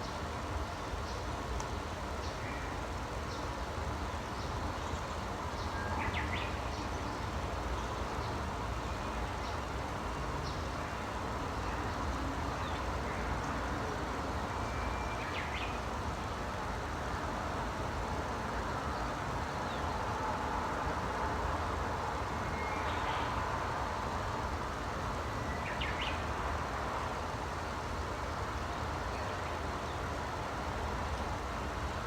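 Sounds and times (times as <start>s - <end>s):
low rumbling background noise: 0.0s - 32.0s.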